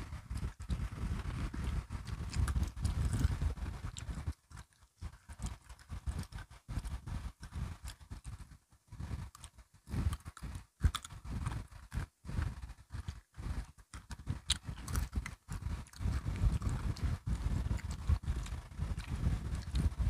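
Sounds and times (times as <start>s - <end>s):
chewing crisp biscuit sticks: 0.0s - 20.0s.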